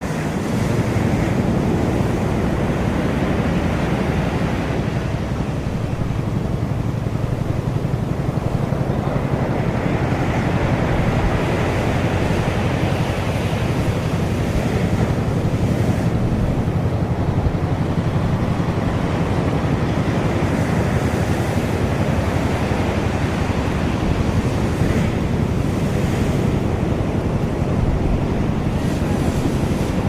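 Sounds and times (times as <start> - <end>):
ocean surf washing on beach: 0.0 - 30.0
wind buffeting microphone: 0.0 - 30.0.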